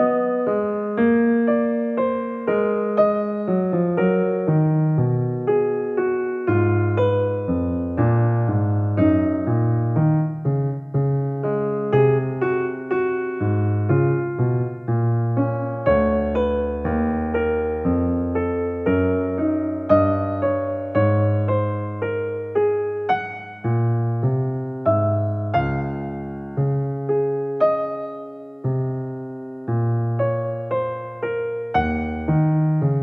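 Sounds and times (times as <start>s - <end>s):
electric piano melody: 0.0s - 33.0s.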